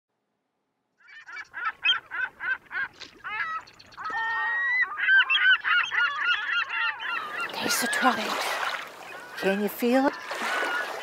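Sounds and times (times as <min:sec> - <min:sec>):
birds calling: 0:01.0 - 0:11.0.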